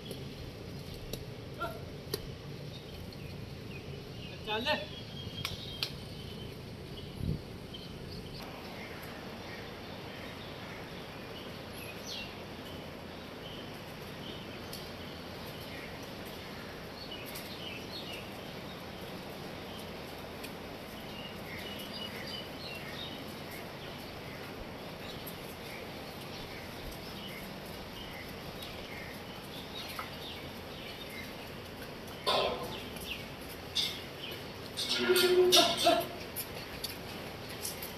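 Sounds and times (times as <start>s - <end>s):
steady background noise: 0.0s - 37.9s.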